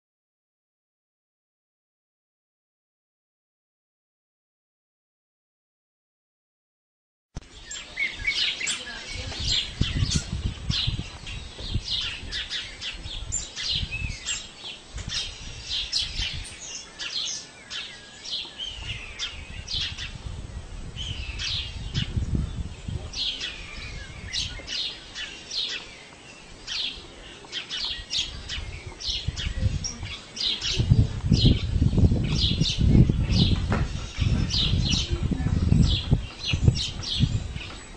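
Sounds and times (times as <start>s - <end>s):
small birds chirping: 7.4s - 37.9s.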